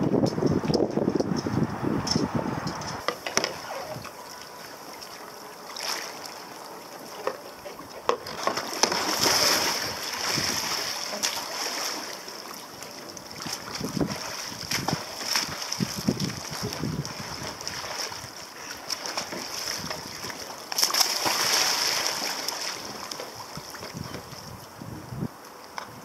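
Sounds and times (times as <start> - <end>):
paddler splashing: 3.0 - 24.6
water lapping and splashing: 3.0 - 24.8.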